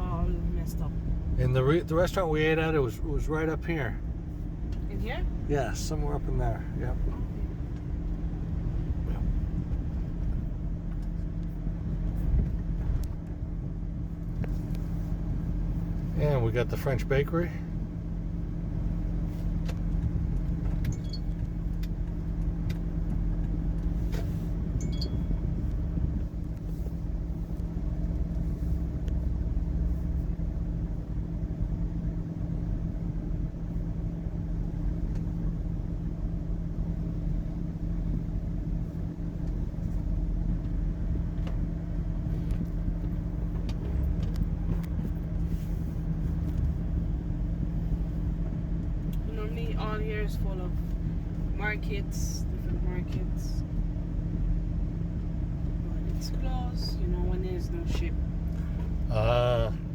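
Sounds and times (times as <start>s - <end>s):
engine and road drone: 0.0s - 59.9s
low two-tone hum: 0.0s - 59.9s.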